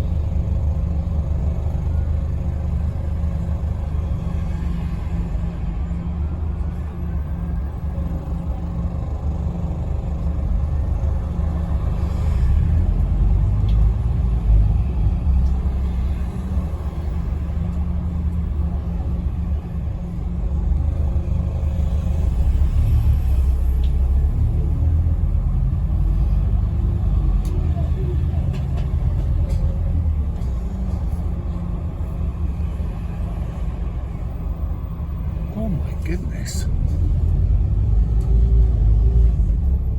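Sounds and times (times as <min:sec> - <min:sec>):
bus engine rumble from inside: 0:00.0 - 0:39.9.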